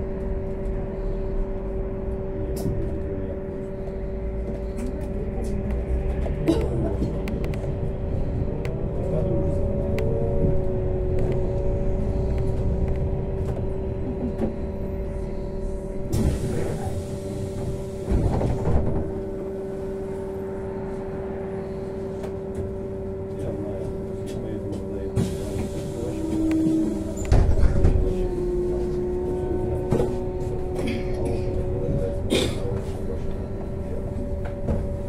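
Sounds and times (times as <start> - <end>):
trolleybus rumble: 0.0 - 35.0.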